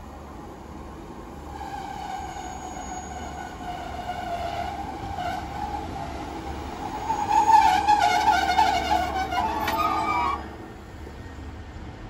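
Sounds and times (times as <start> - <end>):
diesel train engine rumble: 0.0 - 12.0
train high whine: 0.0 - 12.0.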